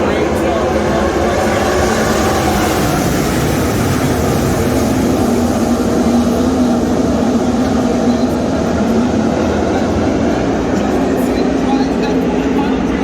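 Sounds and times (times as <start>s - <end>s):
race car engines at full throttle: 0.0s - 13.0s.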